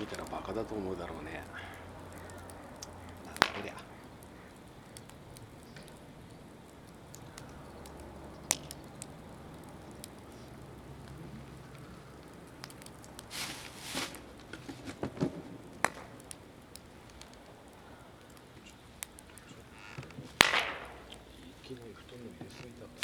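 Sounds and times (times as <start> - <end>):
sharp pop from fire: 0.0 - 6.0, 6.7 - 11.9, 12.5 - 23.0
rustling: 0.0 - 23.0
wood fire crackling: 0.0 - 23.0.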